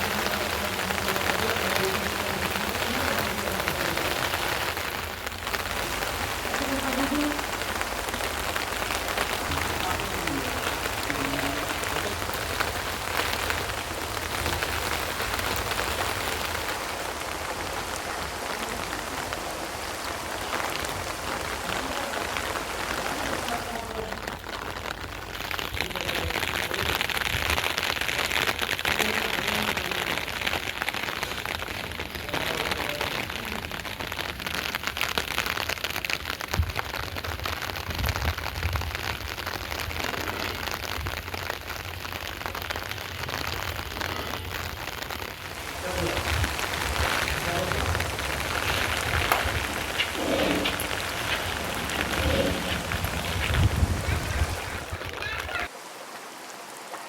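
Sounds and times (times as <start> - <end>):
rain falling on plants: 0.0 - 57.0.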